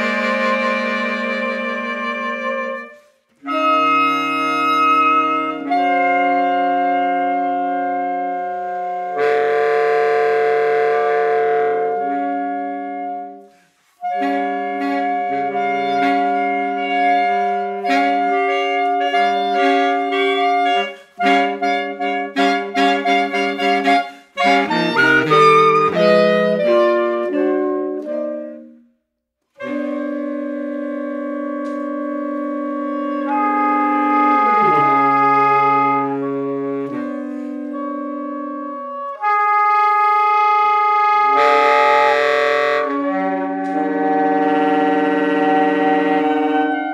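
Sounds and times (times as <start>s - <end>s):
saxophone quartet playing: 0.0s - 46.9s.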